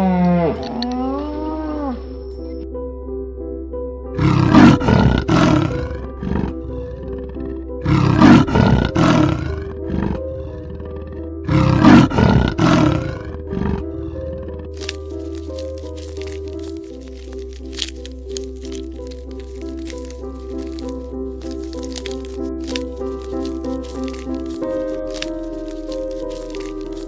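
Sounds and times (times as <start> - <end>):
leopard calling: 0.0 - 2.6, 4.2 - 27.0
soft background music: 0.0 - 27.0.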